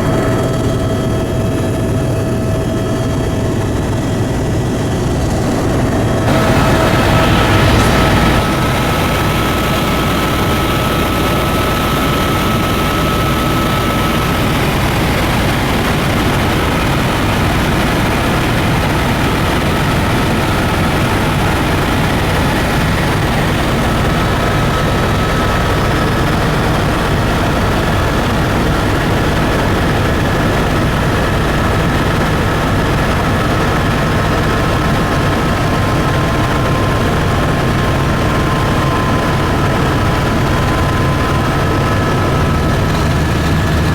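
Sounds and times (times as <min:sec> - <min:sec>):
airplane engines and propellers: 0:00.0 - 0:43.9.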